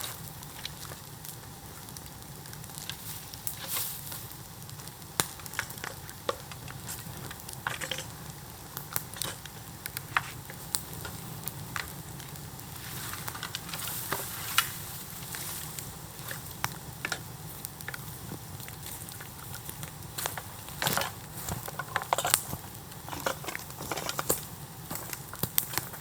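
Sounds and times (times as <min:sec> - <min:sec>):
bamboo crackling and popping: 0:00.0 - 0:26.0
bonfire hissing: 0:00.0 - 0:26.0.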